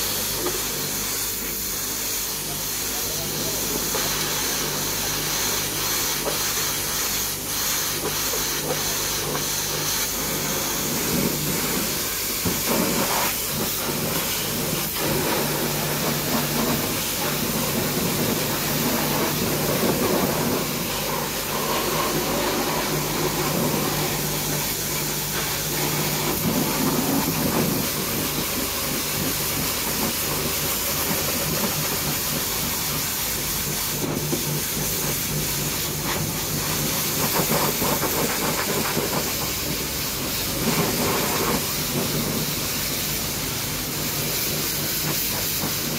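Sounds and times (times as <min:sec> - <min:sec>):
pressure pump hum: 0:00.0 - 0:45.9
pressure washer jet spraying: 0:00.0 - 0:45.9.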